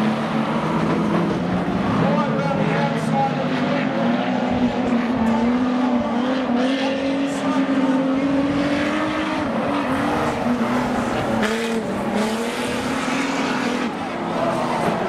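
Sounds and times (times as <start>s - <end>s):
stockcar engines racing: 0.0s - 15.0s.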